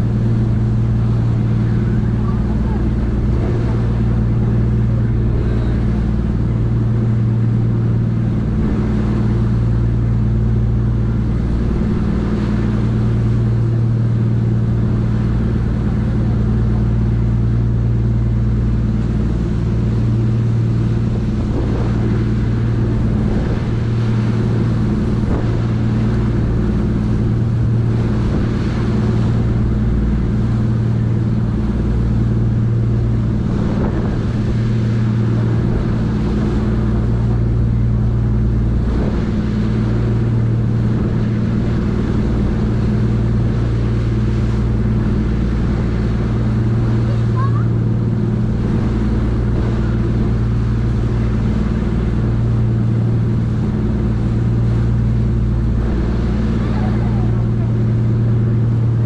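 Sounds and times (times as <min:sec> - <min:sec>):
rush of churning wake: 0:00.0 - 0:59.0
ship engines droning: 0:00.0 - 0:59.0.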